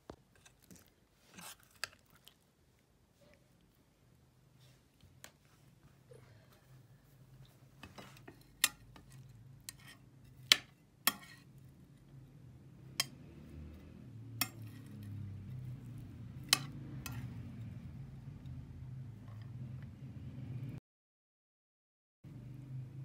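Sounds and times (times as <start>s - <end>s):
low steady hum: 0.0s - 20.8s.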